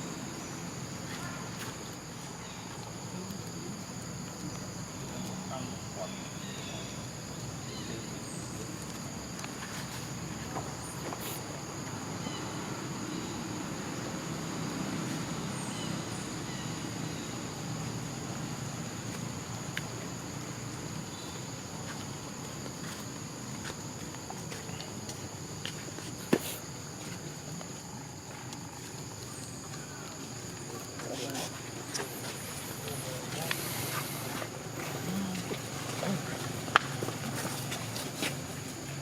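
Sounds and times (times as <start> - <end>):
insect chirring: 0.0 - 39.0.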